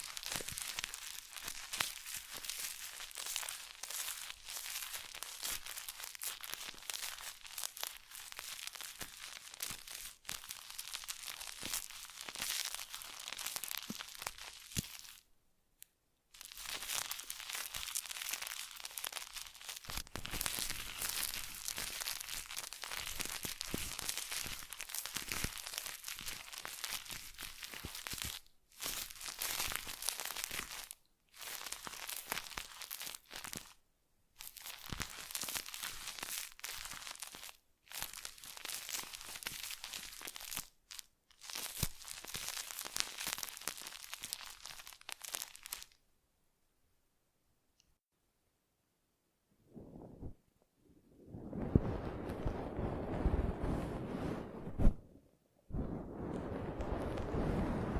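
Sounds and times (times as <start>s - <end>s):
material crinkling and crackling: 0.0s - 15.3s, 16.3s - 33.8s, 34.4s - 46.0s, 51.3s - 57.9s.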